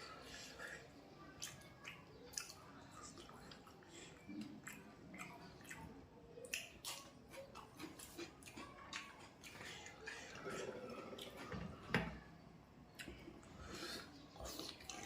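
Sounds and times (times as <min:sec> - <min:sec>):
person chewing and lip-smacking: 0:01.4 - 0:11.4, 0:12.9 - 0:15.0.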